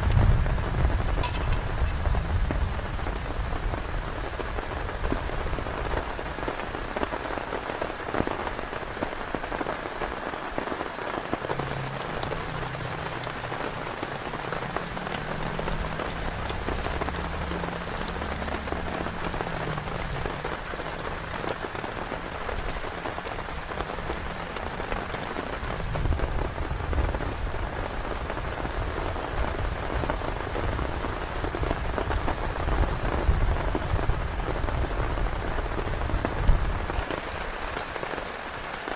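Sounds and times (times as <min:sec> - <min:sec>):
heavy rain drumming on a tent: 0:00.0 - 0:38.9.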